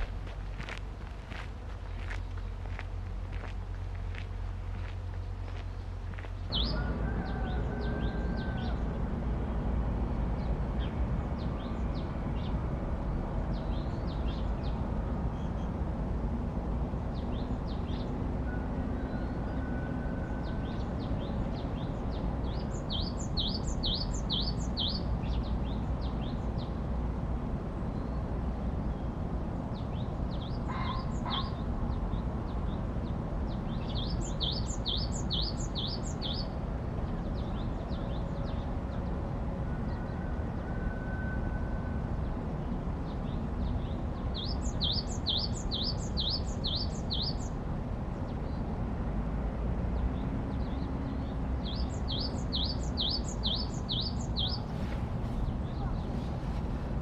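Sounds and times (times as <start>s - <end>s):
low ambient rumble: 0.0s - 40.7s, 41.8s - 57.0s
songbirds chirping: 0.0s - 57.0s.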